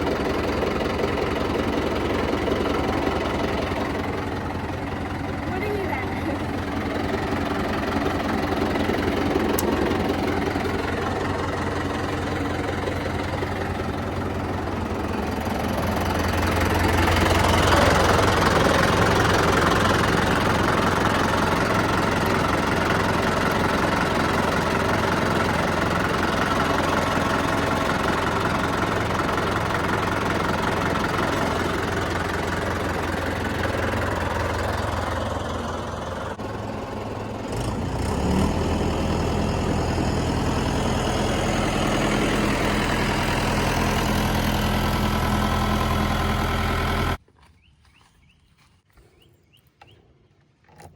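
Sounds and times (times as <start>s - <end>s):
diesel engine revving: 0.0s - 47.2s.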